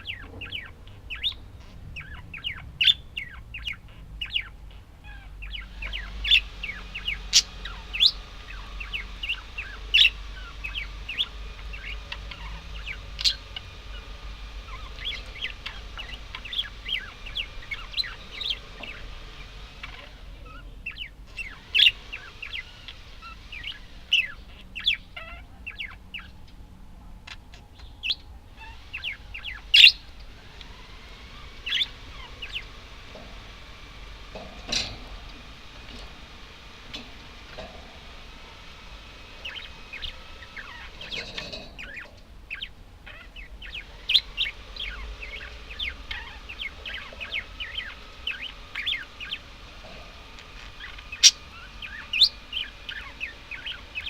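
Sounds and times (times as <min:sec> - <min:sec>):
budgerigars chirping: 0:00.0 - 0:26.4, 0:27.2 - 0:54.0.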